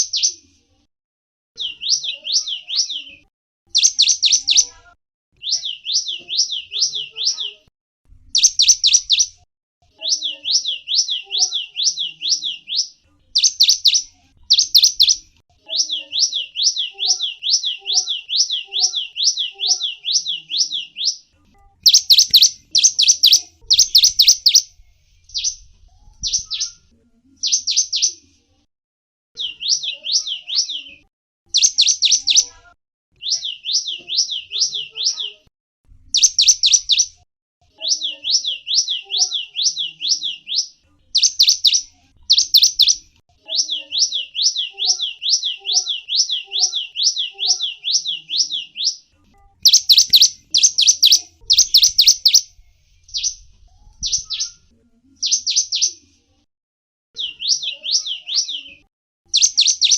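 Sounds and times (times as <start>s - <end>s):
songbird chirping: 0.0s - 0.6s, 1.6s - 7.7s, 8.3s - 28.4s, 29.4s - 35.5s, 36.1s - 56.2s, 57.2s - 59.9s.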